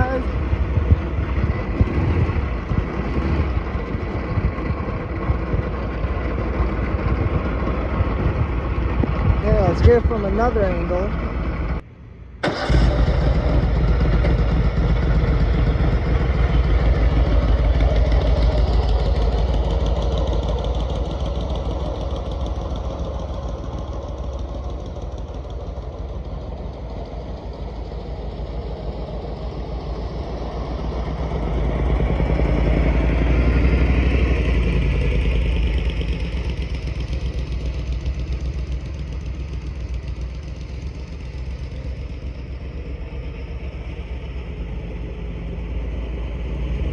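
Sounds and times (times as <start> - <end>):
lawnmower engine running: 0.0 - 11.8, 12.4 - 46.9.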